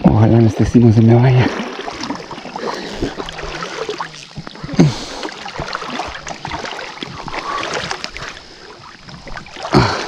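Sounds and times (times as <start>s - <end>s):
water splashing in a river: 0.8s - 10.0s.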